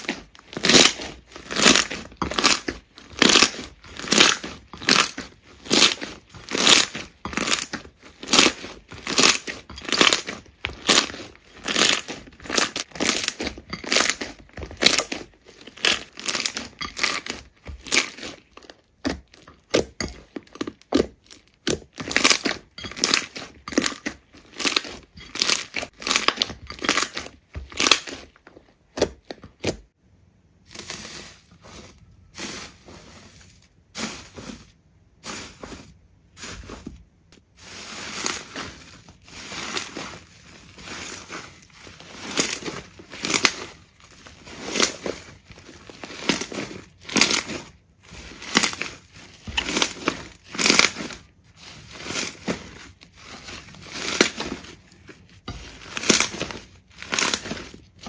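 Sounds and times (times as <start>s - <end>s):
hands squishing slime: 0.0s - 29.9s, 35.2s - 58.0s.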